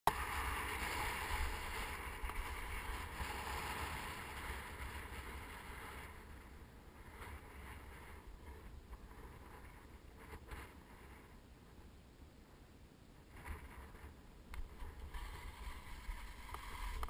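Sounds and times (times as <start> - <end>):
skis sliding on snow: 0.1 - 11.3, 13.3 - 17.0
wind rumbling on microphone: 0.1 - 17.0.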